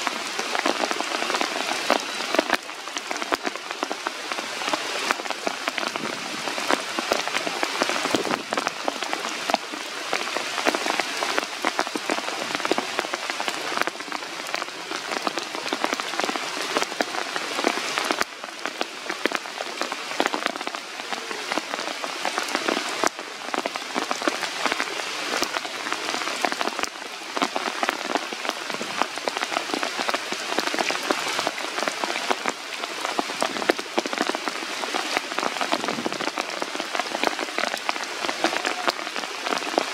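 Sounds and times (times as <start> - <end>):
close raindrop hits: 0.0 - 39.9
rain falling through forest canopy: 0.0 - 39.9.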